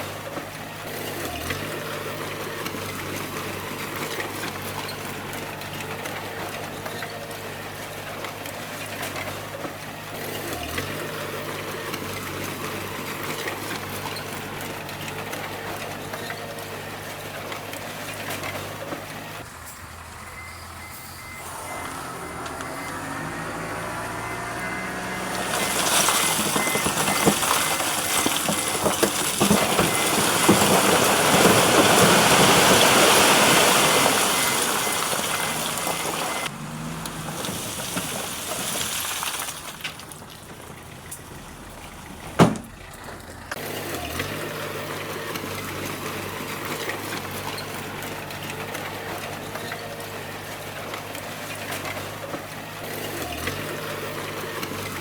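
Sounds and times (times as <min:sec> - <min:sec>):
bulldozer engine running: 0:00.0 - 0:55.0
bulldozer pushing stone clattering: 0:00.0 - 0:55.0.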